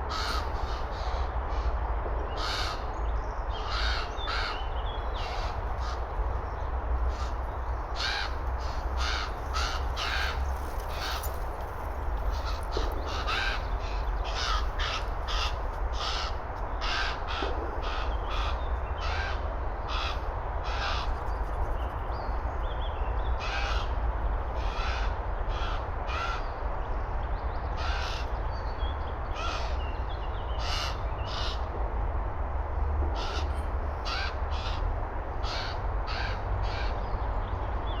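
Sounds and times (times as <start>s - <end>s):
ravens calling: 0.0s - 21.2s, 23.4s - 26.6s, 27.7s - 28.5s, 29.2s - 31.7s, 33.1s - 37.3s.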